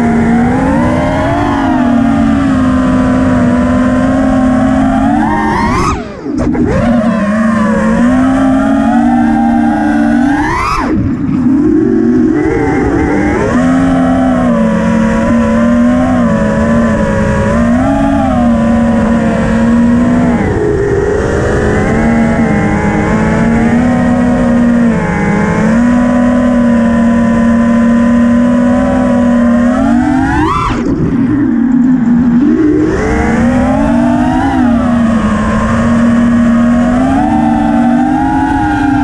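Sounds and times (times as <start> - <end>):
drone motors whining: 0.0 - 39.0.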